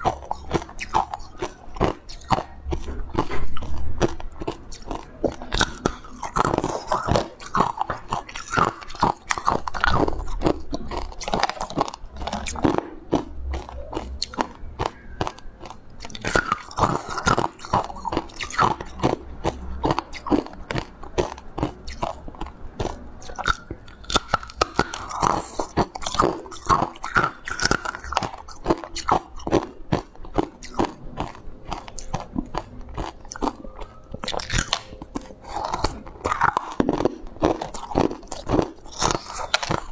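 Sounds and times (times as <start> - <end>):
ice being chewed and crunched: 0.0 - 39.9.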